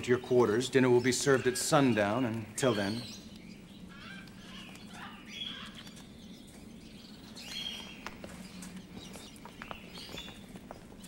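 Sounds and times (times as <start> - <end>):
cage birds chirping: 0.0 - 11.0
low steady hum: 0.0 - 11.0.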